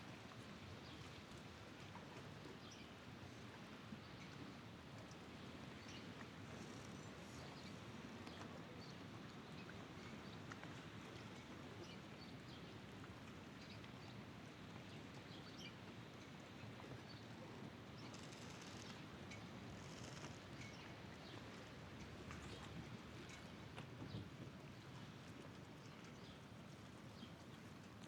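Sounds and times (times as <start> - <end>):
open-air background wash: 0.0 - 28.0.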